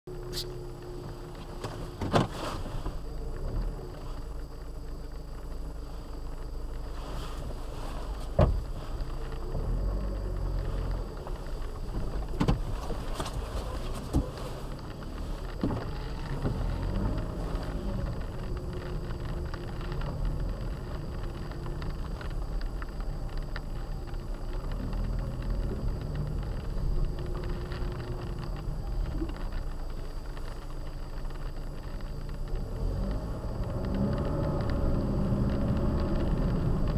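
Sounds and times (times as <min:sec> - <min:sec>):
car cabin rumble: 0:00.1 - 0:36.9.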